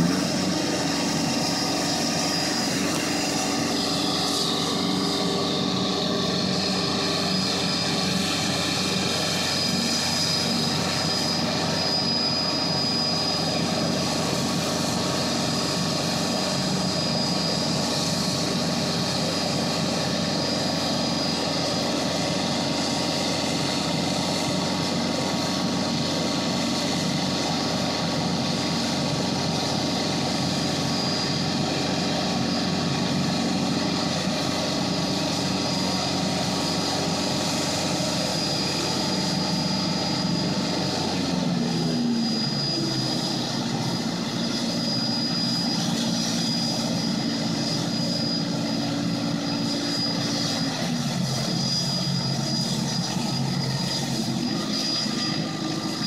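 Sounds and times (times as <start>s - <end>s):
plane engine idling: 0.0s - 56.0s.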